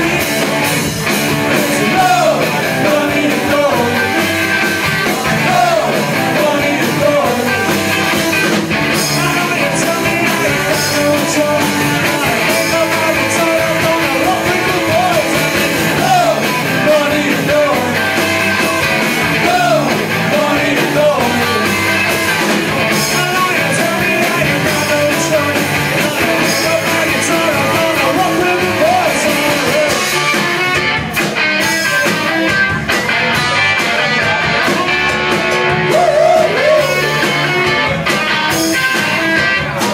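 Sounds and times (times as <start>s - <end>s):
man singing: 0.0s - 0.7s, 1.4s - 4.4s, 5.0s - 8.1s, 8.8s - 30.4s, 33.3s - 37.5s
drum kit: 0.0s - 39.9s
electric guitars: 0.0s - 39.9s.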